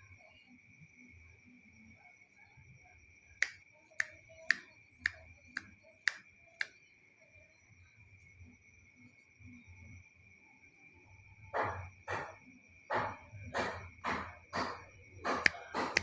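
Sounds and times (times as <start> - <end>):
crickets droning: 0.0 - 3.6, 4.3 - 16.0.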